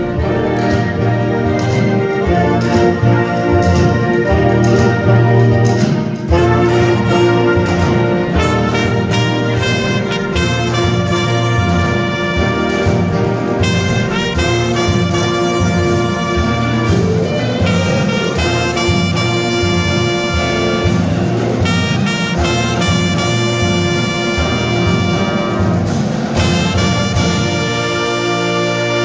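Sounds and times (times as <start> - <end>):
marching band playing: 0.0 - 29.0
steady drum beat: 0.0 - 29.0
trumpets and trombones chords: 0.0 - 29.0.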